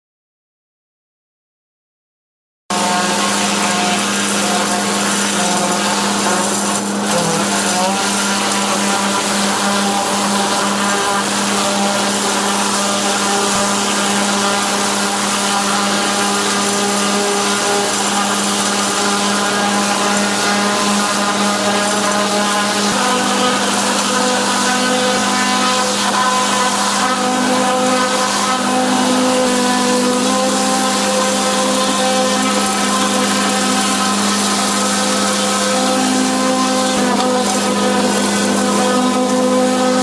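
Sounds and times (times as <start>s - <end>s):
water jet and vacuum hiss: 2.7s - 40.0s.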